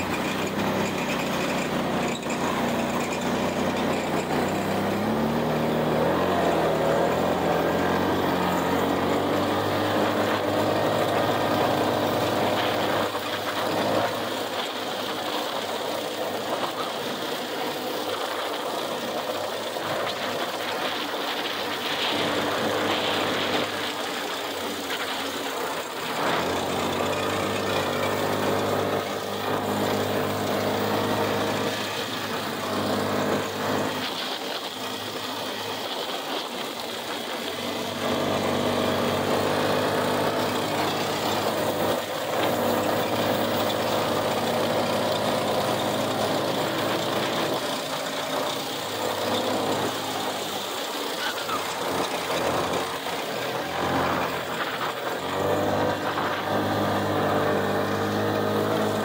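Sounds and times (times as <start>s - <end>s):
small engine running under load: 0.0s - 59.0s.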